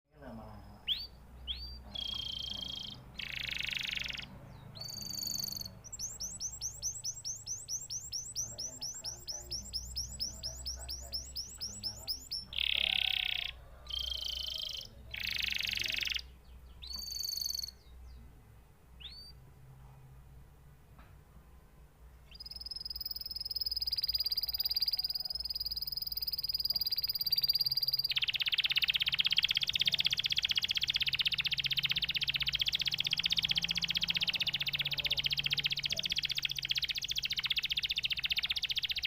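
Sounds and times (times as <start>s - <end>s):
canary singing: 0.1s - 18.3s, 18.9s - 19.4s, 22.1s - 39.0s.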